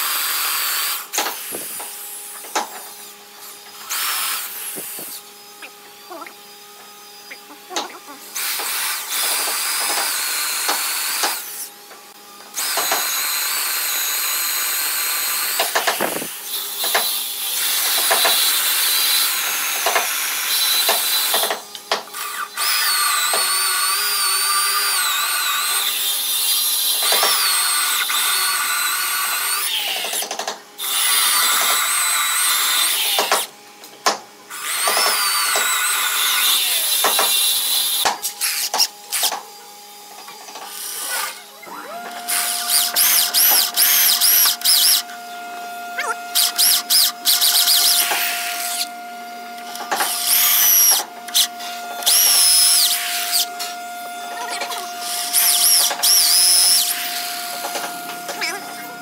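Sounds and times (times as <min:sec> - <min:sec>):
electric drill boring into wood: 0:00.0 - 0:33.6, 0:34.5 - 0:39.5, 0:40.4 - 0:59.0.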